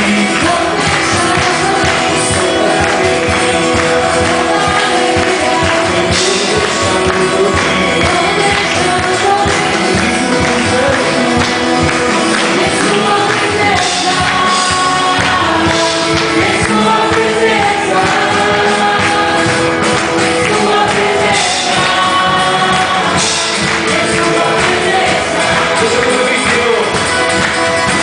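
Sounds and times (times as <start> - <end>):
voices singing together: 0.0 - 28.0
worship band playing: 0.0 - 28.0.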